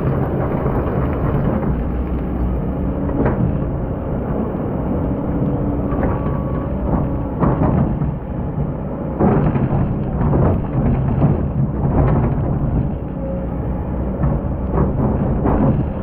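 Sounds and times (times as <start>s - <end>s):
excavator diesel engine working: 0.0s - 16.0s.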